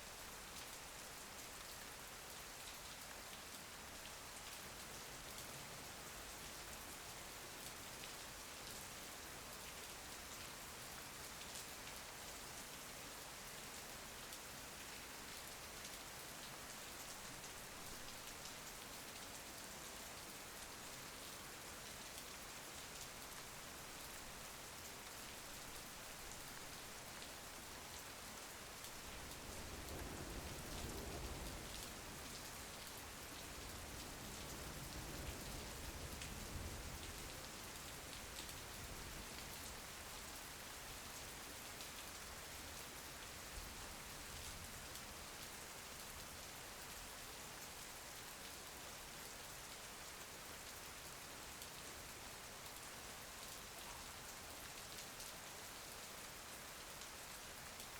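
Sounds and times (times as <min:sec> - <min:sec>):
rain pattering on a window: 0:00.0 - 0:57.9.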